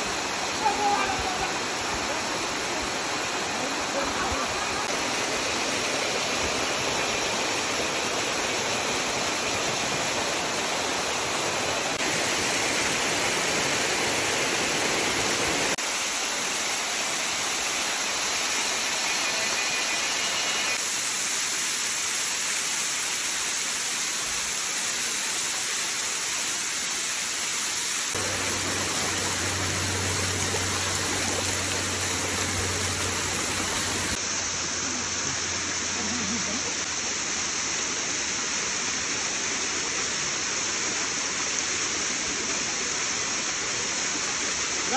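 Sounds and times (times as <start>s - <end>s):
stream water rushing: 0.0s - 44.9s.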